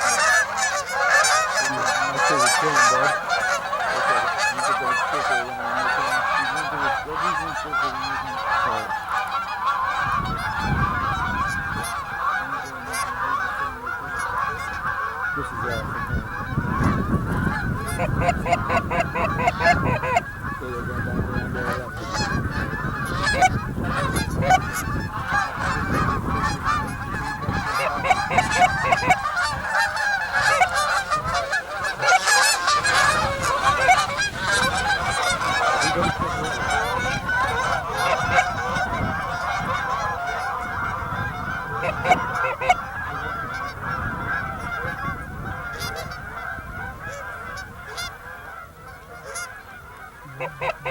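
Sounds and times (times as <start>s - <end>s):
geese honking: 0.0s - 50.9s.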